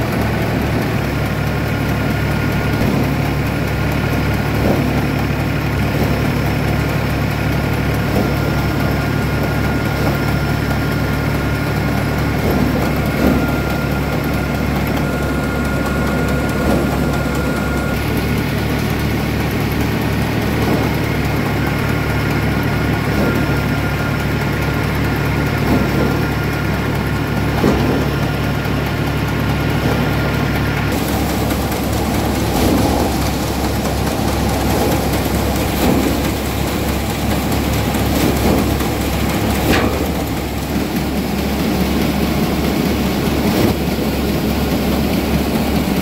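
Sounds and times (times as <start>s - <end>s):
tractor engine driving thresher: 0.0s - 46.0s.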